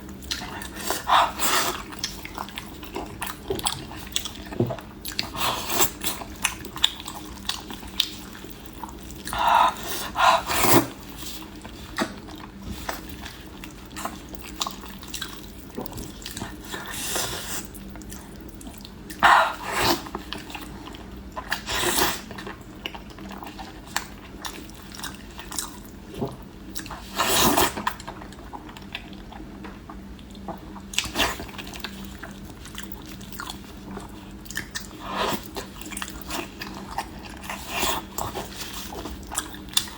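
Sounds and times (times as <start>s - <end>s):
person chewing and smacking: 0.0s - 39.9s.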